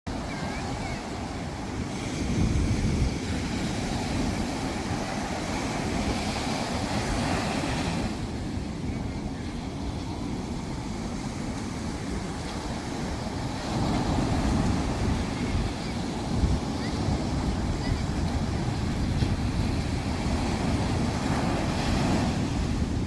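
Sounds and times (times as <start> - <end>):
waves washing onto beach: 0.1 - 23.0
wind buffeting microphone: 0.1 - 23.0.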